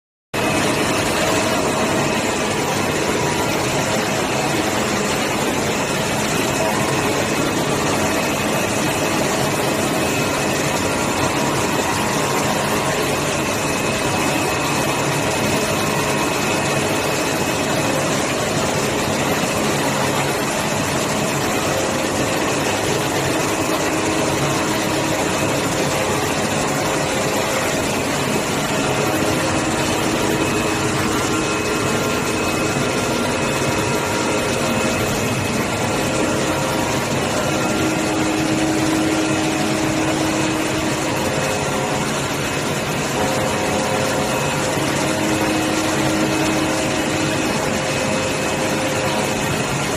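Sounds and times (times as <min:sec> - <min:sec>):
cutting machine humming: 0:00.4 - 0:49.9.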